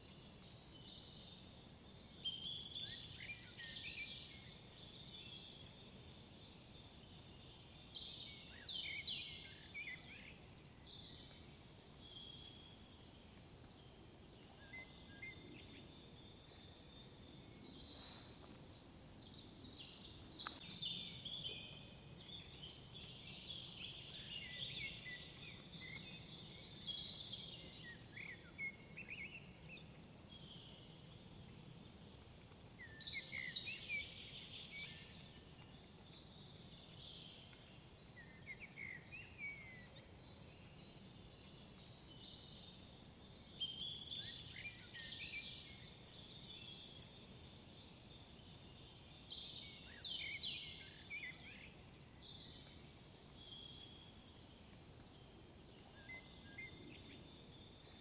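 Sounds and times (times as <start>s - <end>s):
faint background hiss: 0.0s - 58.0s
songbirds singing: 0.0s - 58.0s.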